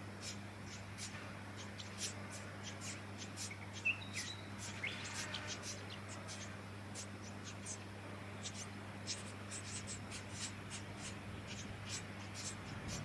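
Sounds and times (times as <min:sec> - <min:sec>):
nestlings begging calls: 0:00.0 - 0:13.0.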